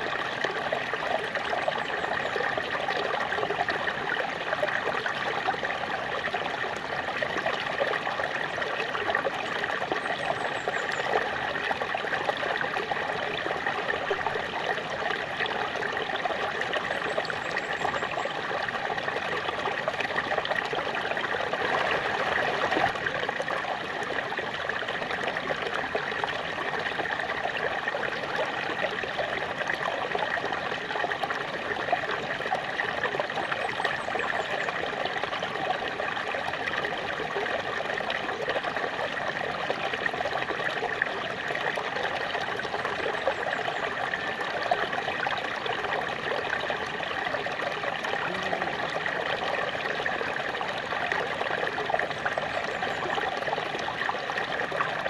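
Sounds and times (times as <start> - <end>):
small waterfall trickling: 0.0 - 55.0.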